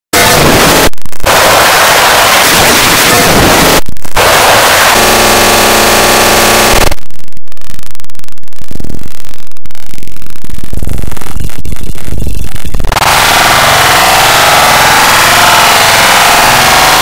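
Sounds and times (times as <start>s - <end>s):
bass-heavy distorted din: 0.1s - 17.0s
harsh buzzing tone: 0.1s - 17.0s
loud static hiss: 0.2s - 17.0s.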